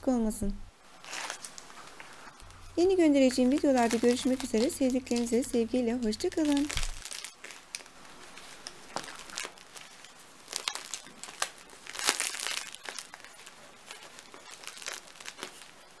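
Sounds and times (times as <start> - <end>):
bread crust crackling: 0.8 - 16.0.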